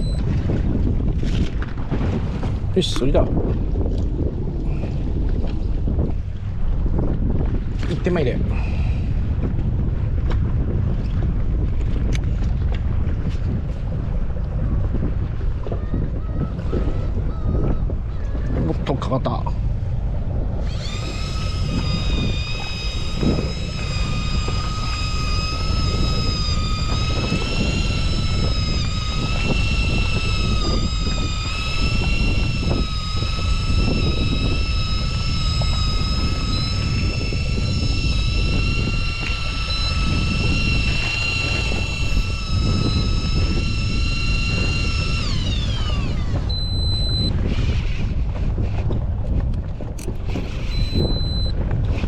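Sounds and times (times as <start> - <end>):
outboard motor droning: 0.0 - 52.0
wind: 0.0 - 52.0.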